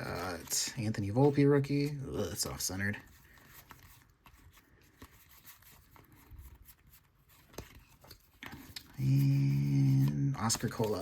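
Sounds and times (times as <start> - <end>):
trading cards clicking and rustling: 0.0 - 9.0, 9.6 - 11.0.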